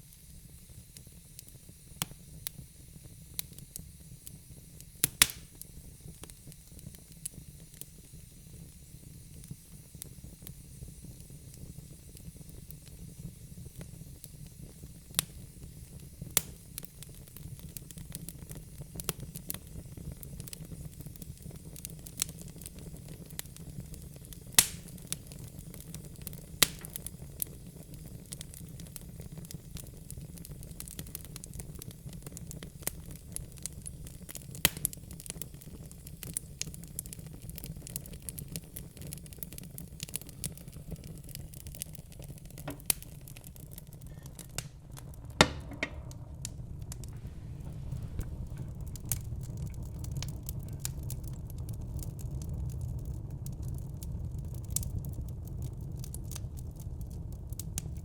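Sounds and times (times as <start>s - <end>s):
flames rumbling and hissing: 0.0s - 58.0s
logs crackling and popping: 3.4s - 8.0s, 13.7s - 58.0s.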